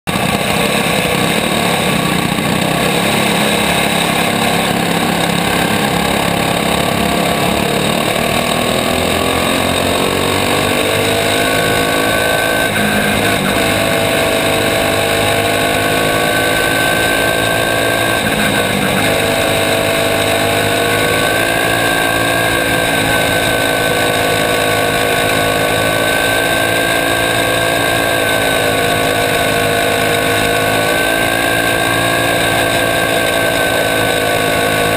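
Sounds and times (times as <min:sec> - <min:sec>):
racing kart engine revving: 0:00.0 - 0:34.9.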